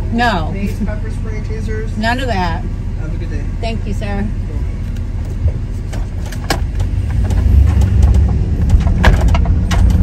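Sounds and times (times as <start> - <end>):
road rumble: 0.0 - 10.0
van engine accelerating: 0.0 - 10.0.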